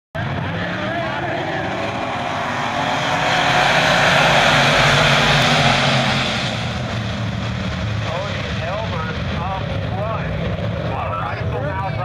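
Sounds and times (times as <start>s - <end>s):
race cars racing past: 0.2s - 12.0s.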